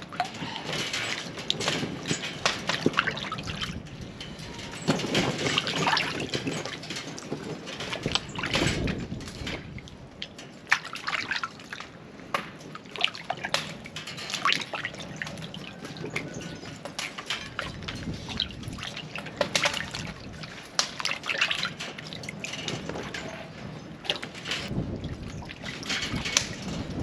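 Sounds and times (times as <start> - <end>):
water splashing and dripping: 0.0 - 27.0.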